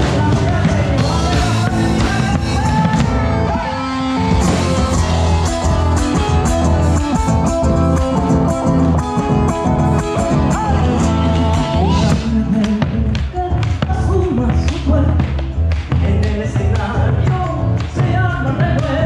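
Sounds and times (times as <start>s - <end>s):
electric guitar lead: 0.0s - 19.0s
live folk-rock band playing: 0.0s - 19.0s.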